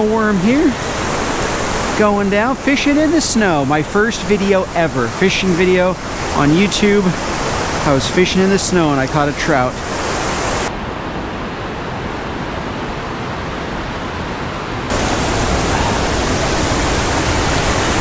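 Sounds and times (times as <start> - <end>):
rushing stream and waterfalls: 0.0 - 18.0.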